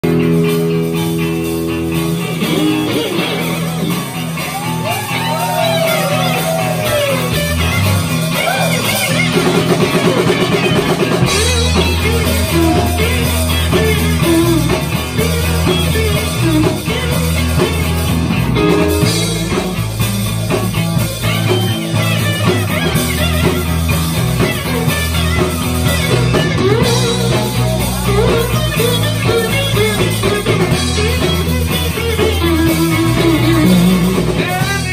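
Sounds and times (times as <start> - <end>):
bent lead guitar notes: 0.0 - 34.9
live rock band playing: 0.0 - 34.9.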